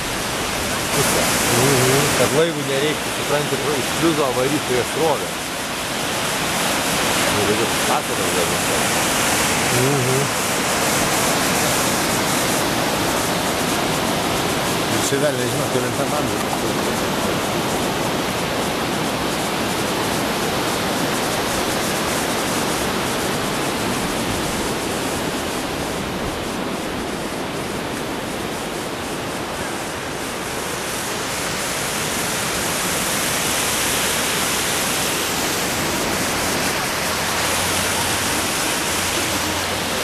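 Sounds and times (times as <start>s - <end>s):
river water rushing over stones: 0.0s - 40.0s.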